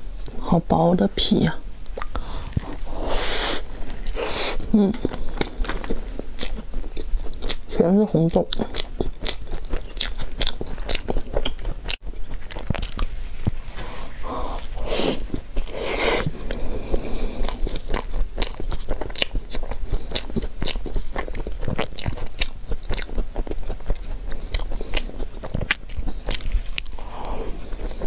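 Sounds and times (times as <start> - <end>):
close-miked eating and chewing: 1.3 - 28.0.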